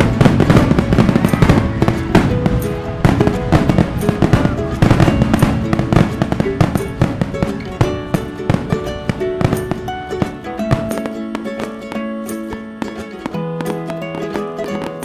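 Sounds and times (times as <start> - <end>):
fireworks crackling and banging: 0.0 - 15.0
music playing: 0.0 - 15.0.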